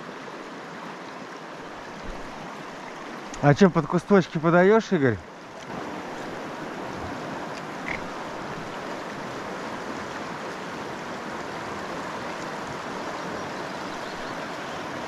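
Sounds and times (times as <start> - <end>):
fast-flowing river: 0.0 - 15.0.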